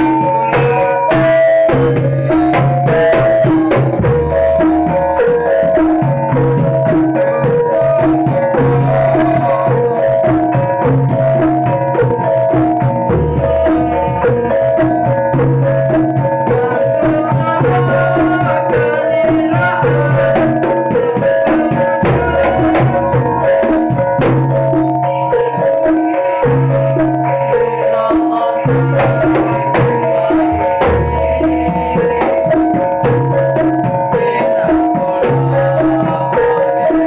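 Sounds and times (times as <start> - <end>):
gongs ringing: 0.0 - 37.0
hand drums beating: 0.0 - 37.0
metallophones: 0.0 - 37.0.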